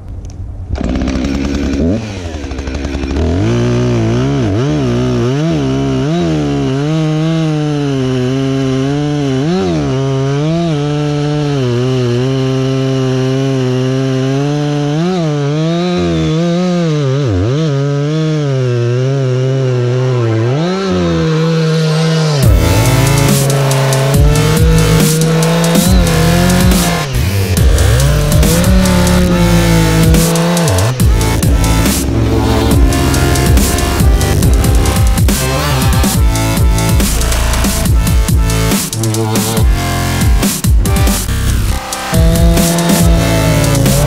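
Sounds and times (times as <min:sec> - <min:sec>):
chainsaw cutting log: 0:00.7 - 0:44.0.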